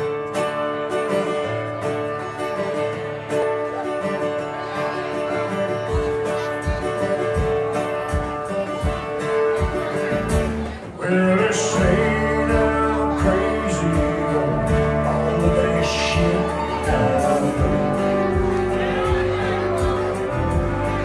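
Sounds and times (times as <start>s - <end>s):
live country band playing: 0.0s - 21.0s.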